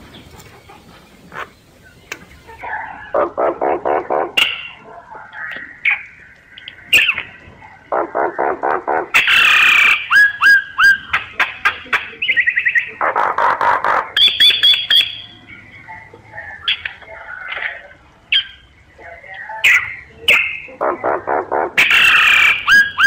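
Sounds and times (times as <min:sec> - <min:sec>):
myna calling: 0:00.0 - 0:23.0.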